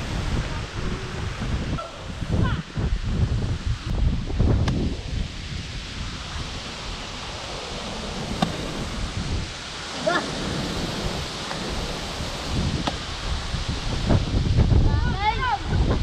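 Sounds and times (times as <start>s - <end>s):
steady hiss: 0.0s - 16.0s
wind rumbling on microphone: 0.0s - 16.0s.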